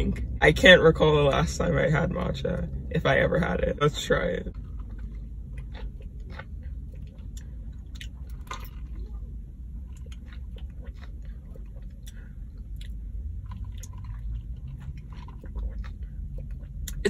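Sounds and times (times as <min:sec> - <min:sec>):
person chewing and swallowing: 0:00.0 - 0:17.0
steady low hum: 0:00.0 - 0:17.0.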